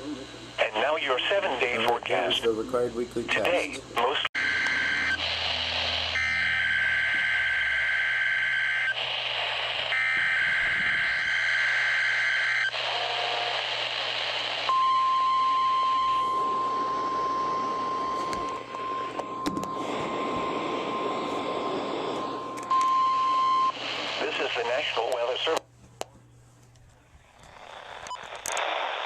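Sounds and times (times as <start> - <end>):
radio static hiss: 0.0 - 14.8, 15.6 - 25.7, 27.1 - 29.0.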